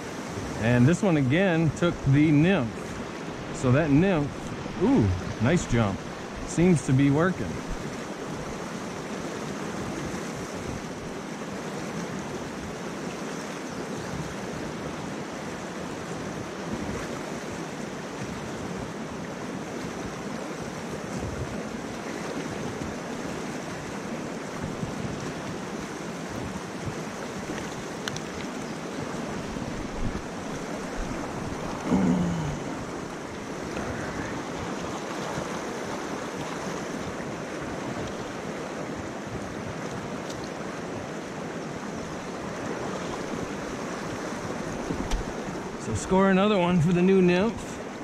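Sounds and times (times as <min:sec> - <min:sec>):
stream rapids rushing: 0:00.0 - 0:48.0.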